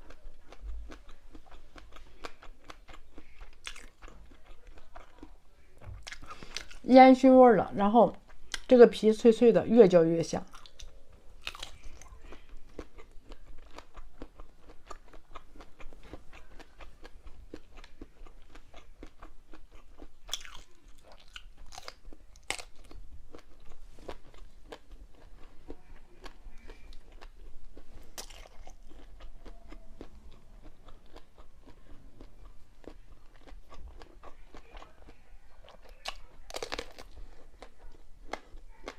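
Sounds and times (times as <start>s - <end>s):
chewing crunchy sausage: 0.0s - 6.9s, 8.1s - 8.8s, 10.4s - 38.9s.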